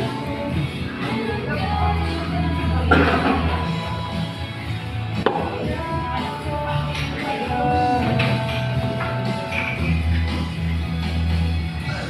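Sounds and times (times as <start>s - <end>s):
guitar music: 0.0s - 12.0s
low bass notes: 0.0s - 12.0s.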